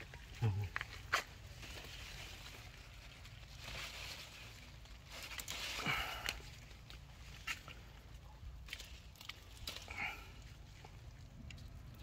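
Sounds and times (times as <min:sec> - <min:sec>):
leaves and vines rustling: 0:00.0 - 0:12.0.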